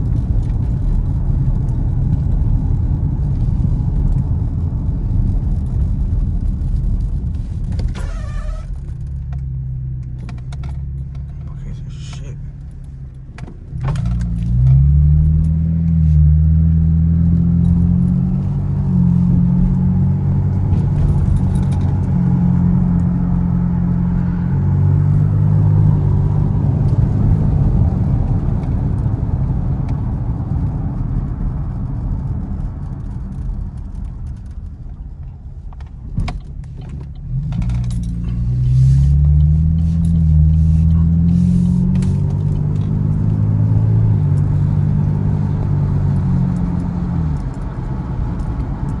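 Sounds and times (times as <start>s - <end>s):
car engine and exhaust rumbling: 0.0s - 49.0s.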